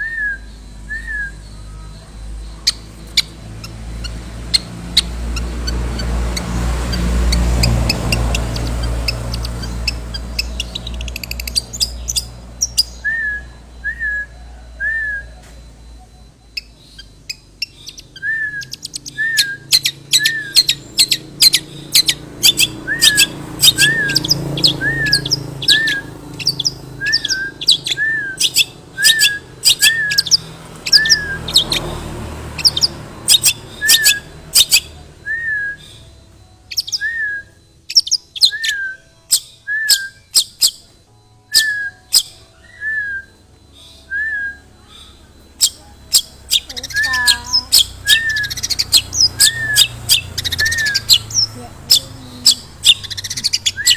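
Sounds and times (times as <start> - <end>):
sharp high chirps: 0.0 - 53.9
shrike whistling: 0.0 - 53.9.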